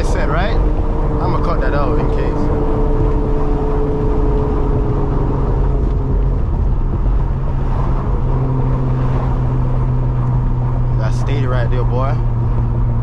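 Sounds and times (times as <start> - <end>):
car engine drone: 0.0 - 13.0
road and tyre rumble: 0.0 - 13.0.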